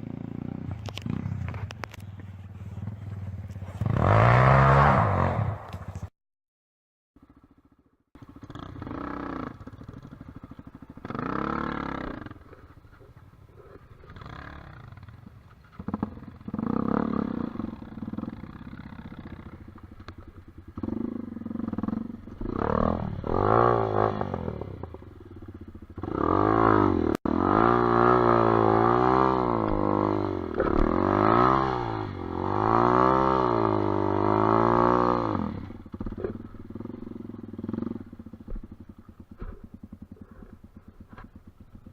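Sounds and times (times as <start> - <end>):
dirt bike engine revving: 0.0 - 6.1, 8.2 - 41.9.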